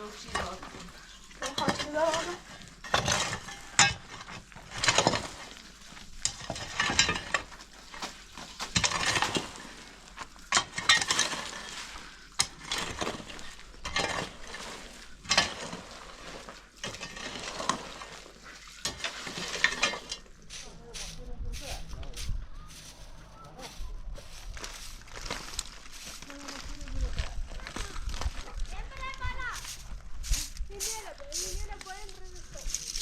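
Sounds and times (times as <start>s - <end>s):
dry branches rustling and cracking: 0.0s - 21.2s, 21.8s - 33.0s.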